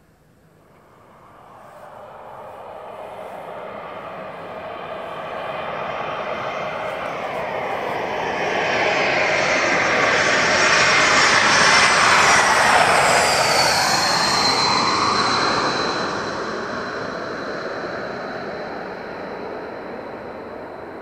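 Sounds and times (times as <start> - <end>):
high engine whine: 0.0 - 21.0
jet airliner passing: 0.5 - 21.0.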